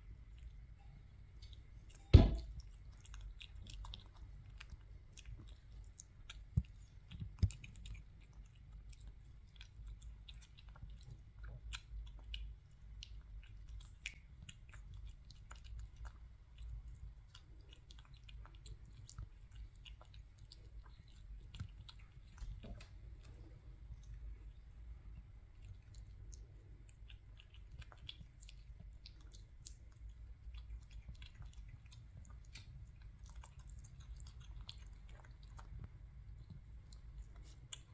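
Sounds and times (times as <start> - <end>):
kitten chewing wetly: 0.0 - 37.9.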